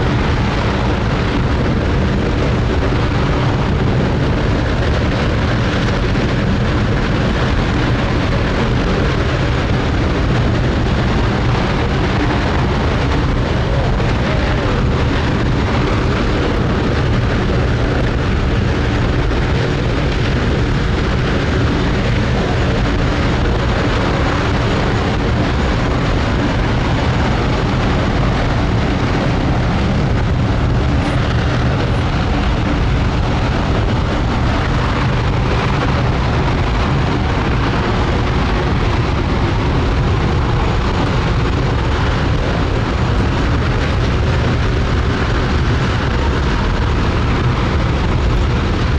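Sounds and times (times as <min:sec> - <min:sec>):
rocket engine deep rumble: 0:00.0 - 0:48.9.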